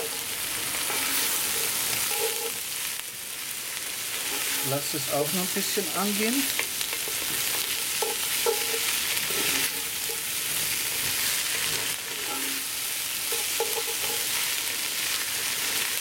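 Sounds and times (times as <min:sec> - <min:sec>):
potatoes and bacon sizzling: 0:00.0 - 0:16.0.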